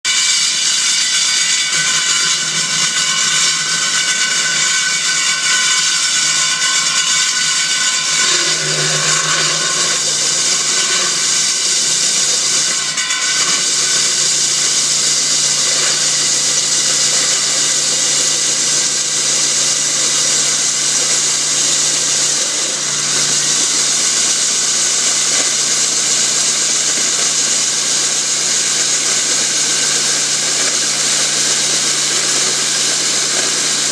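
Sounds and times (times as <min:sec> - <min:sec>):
core drill cutting concrete: 0:00.0 - 0:33.9.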